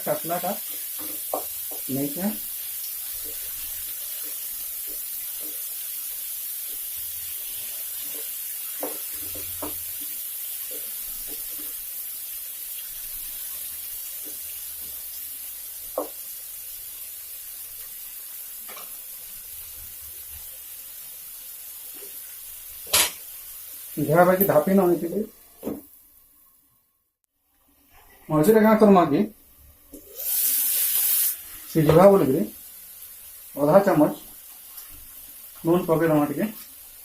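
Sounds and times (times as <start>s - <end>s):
hot oil sizzling in a pan: 0.0s - 26.5s, 28.0s - 37.0s.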